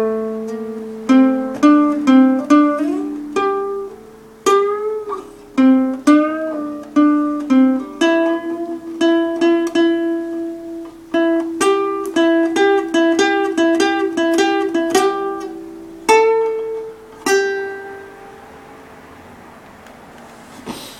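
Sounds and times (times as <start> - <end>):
plucked string instrument: 0.0 - 19.8.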